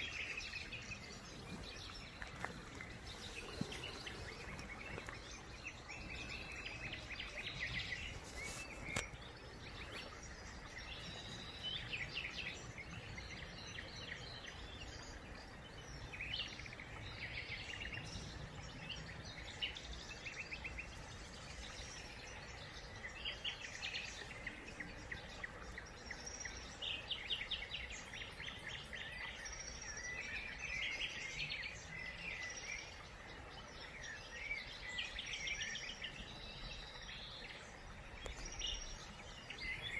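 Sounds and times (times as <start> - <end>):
low outdoor background noise: 0.0 - 39.9
songbirds chirping and trilling: 0.0 - 39.9.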